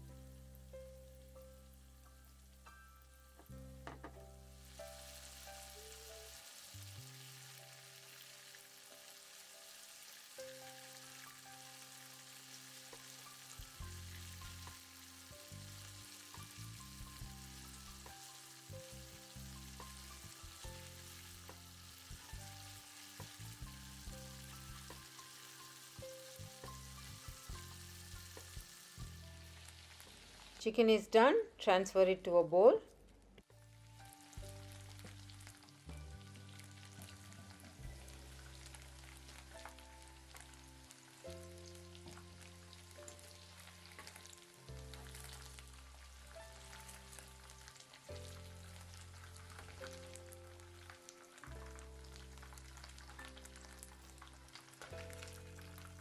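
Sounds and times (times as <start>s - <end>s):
light background music: 0.0s - 56.0s
chicken frying in oil: 4.4s - 30.7s, 33.7s - 56.0s.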